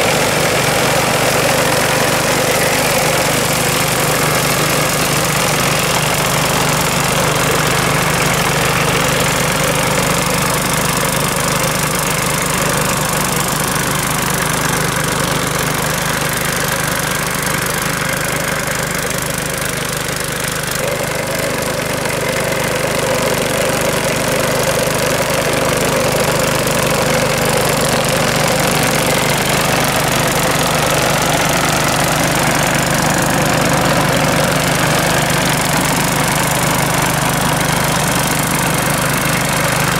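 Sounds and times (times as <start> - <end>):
mower petrol engine running: 0.0 - 39.9.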